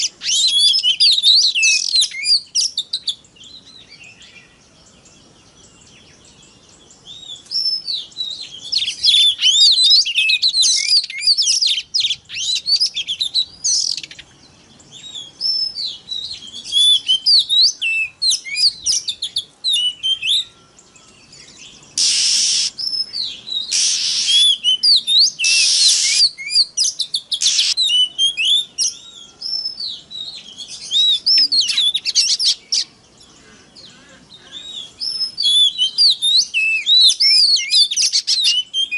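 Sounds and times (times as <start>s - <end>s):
bird singing whistles and chirps: 0.0s - 38.9s
harsh hissing bird notes: 0.0s - 38.9s.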